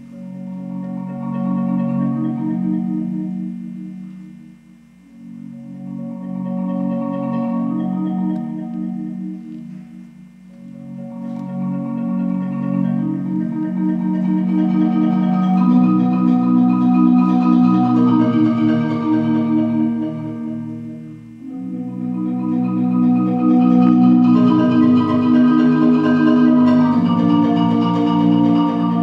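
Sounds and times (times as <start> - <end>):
marimba chords with mallets: 5.4 - 29.0.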